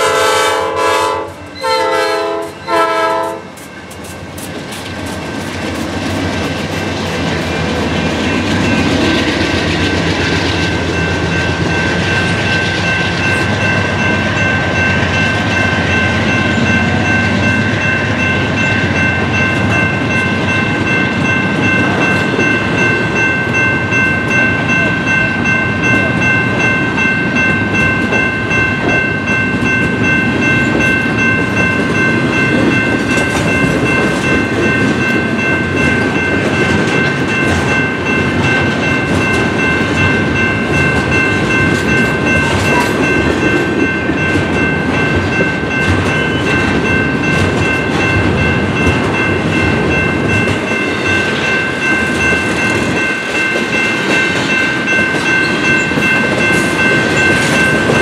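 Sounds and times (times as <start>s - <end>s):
diesel locomotive passing: 0.0s - 58.0s
train wheels rumbling on rails: 0.0s - 58.0s.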